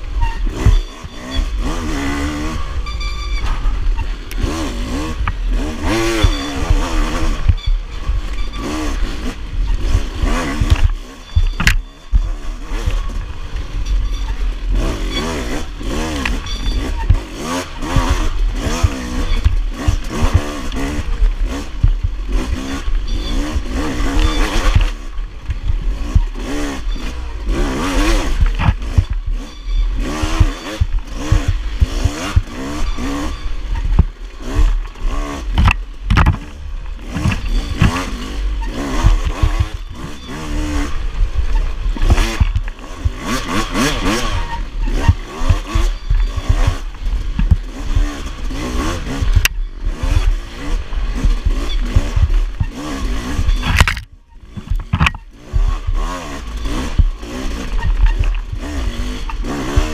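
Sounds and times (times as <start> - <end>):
dirt bike engine revving: 0.0 - 59.9
bike knocks and clatter: 0.2 - 4.5, 5.2 - 59.9.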